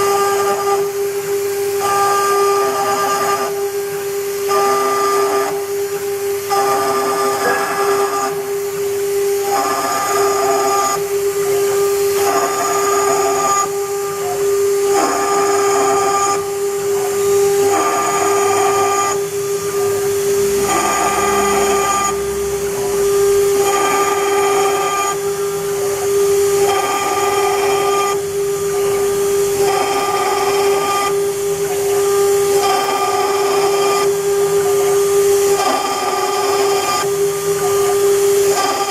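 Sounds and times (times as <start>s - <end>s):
router spindle whining: 0.0s - 38.9s
bit engraving copper: 1.8s - 38.9s.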